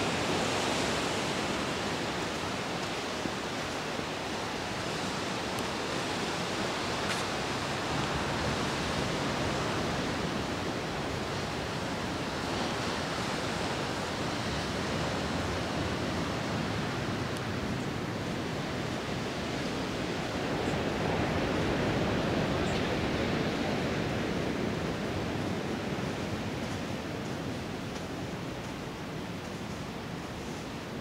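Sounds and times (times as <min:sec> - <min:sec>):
ocean surf: 0:00.0 - 0:31.0.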